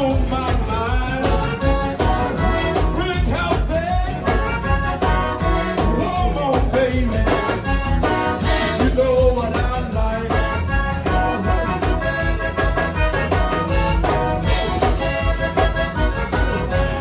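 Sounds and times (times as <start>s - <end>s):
accordion: 0.0s - 17.0s
live band playing: 0.0s - 17.0s.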